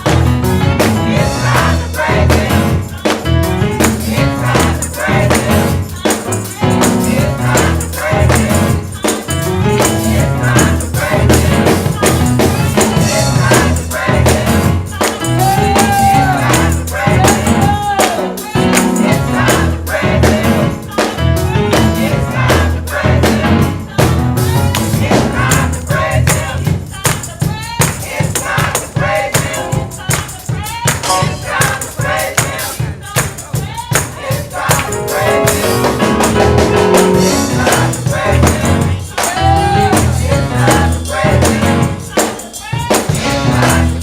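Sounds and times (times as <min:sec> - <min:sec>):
gospel worship music: 0:00.0 - 0:44.0
tambourine: 0:00.0 - 0:44.0
voices singing: 0:00.0 - 0:44.0.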